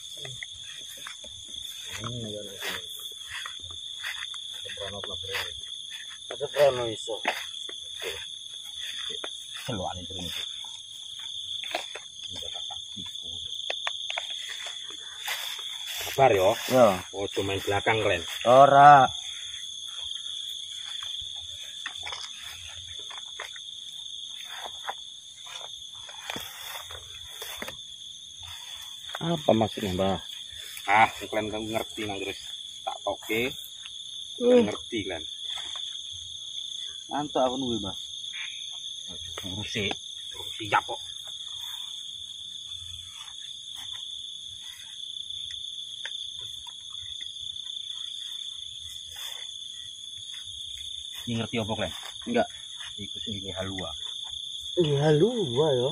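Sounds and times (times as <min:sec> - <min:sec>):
insects chirping: 0:00.0 - 0:55.9.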